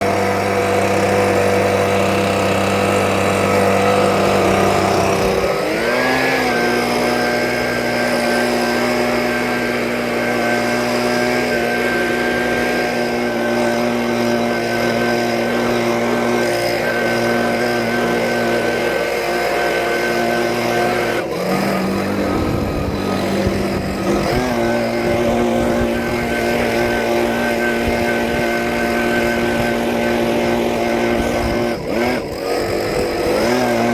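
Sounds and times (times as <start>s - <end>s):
snowblower engine running: 0.0s - 33.9s.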